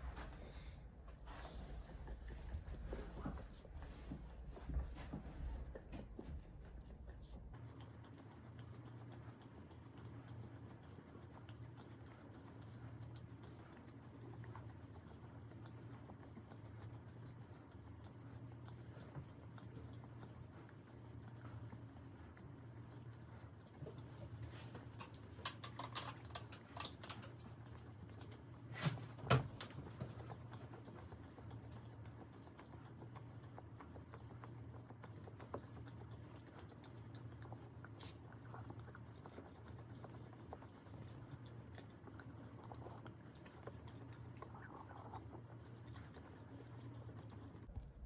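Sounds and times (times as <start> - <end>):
dog mouthing treat ball: 0.0 - 48.0.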